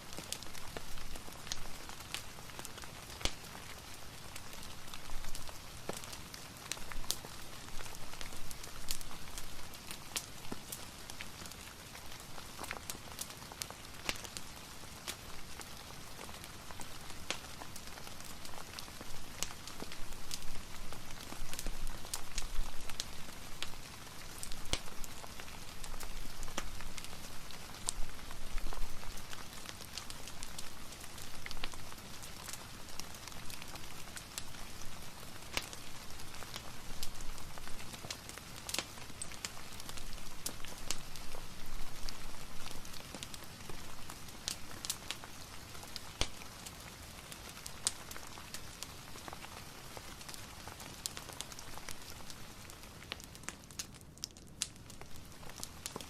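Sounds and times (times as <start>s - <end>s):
fireplace crackling: 0.0s - 56.0s
soft rain hiss: 0.0s - 56.0s.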